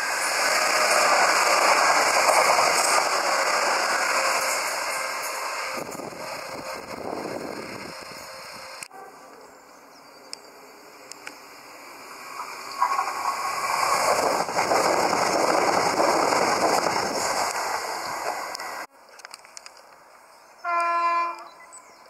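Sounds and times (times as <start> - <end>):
passenger train passing at speed: 0.0 - 18.9
another train noise: 0.0 - 22.0.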